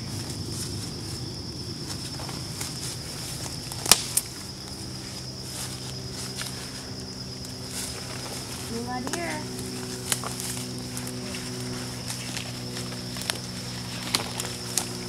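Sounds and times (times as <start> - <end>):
footsteps through brush: 0.0 - 15.0
insects trilling: 0.0 - 15.0
low steady hum: 0.0 - 15.0.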